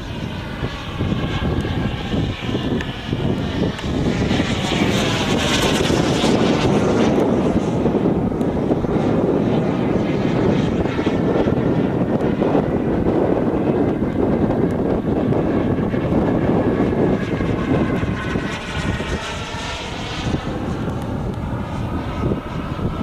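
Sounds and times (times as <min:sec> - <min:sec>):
model jet turbine passing: 0:00.0 - 0:23.0.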